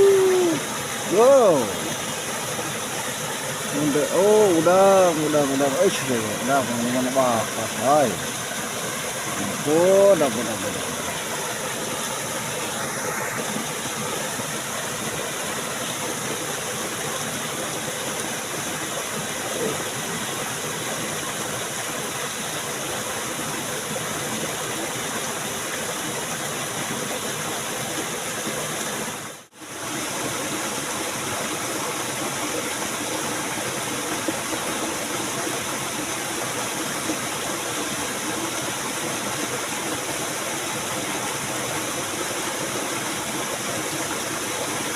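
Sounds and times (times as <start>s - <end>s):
stream water rushing: 0.0s - 44.9s.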